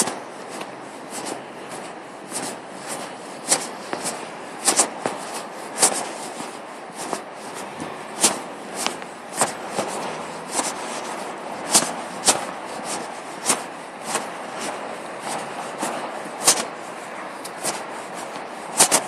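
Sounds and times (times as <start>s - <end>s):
footsteps on pavement: 0.0s - 19.0s.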